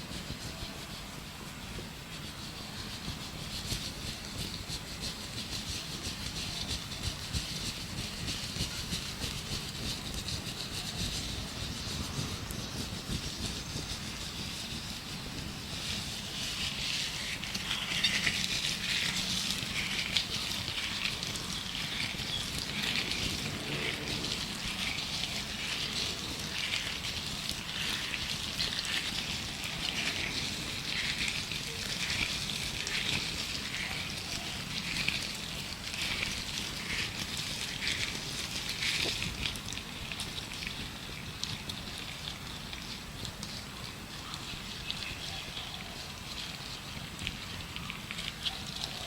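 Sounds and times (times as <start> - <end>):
gloves rustling: 0.0 - 49.0.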